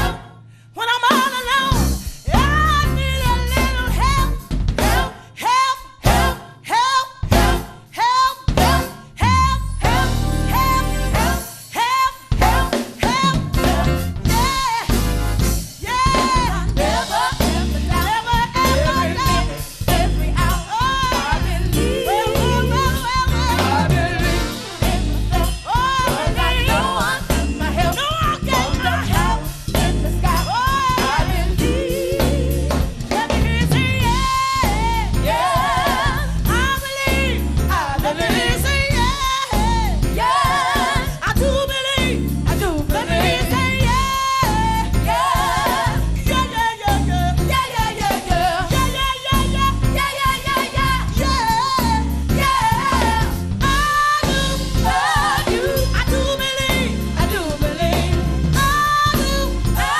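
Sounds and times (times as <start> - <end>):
band with drums and bass: 0.0 - 0.3, 1.0 - 59.9
lead singer with vibrato: 0.0 - 15.2, 15.8 - 59.9.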